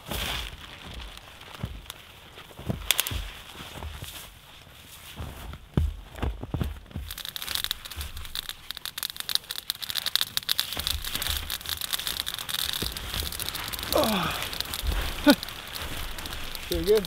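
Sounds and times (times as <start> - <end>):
branches rustling on foil sheet: 0.0 - 17.0.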